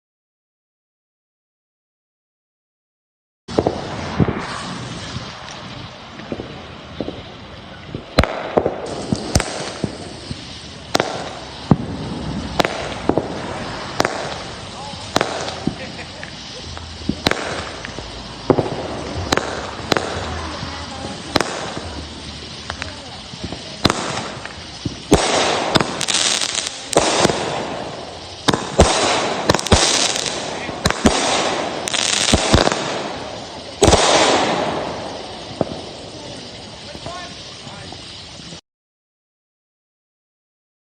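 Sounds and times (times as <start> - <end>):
faint fireworks pops: 3.5 - 38.6
fireworks bangs: 3.5 - 38.6.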